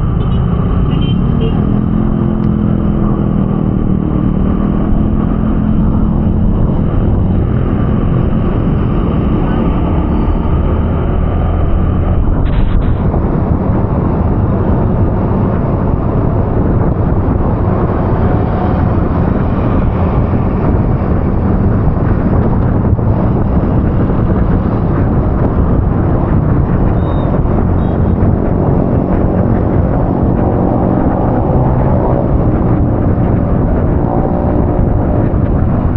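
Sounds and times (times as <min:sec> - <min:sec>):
vehicle low rumble: 0:00.0 - 0:35.9
wind buffeting microphone: 0:00.0 - 0:35.9.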